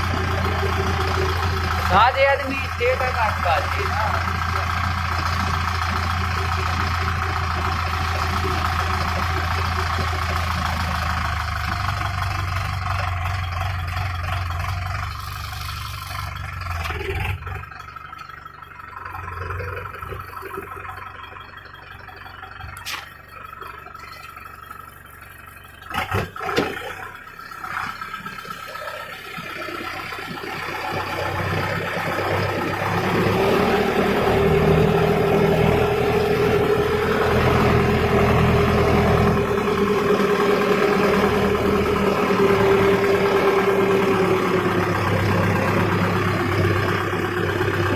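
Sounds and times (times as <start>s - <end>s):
farm machinery engine running: 0.0s - 47.9s.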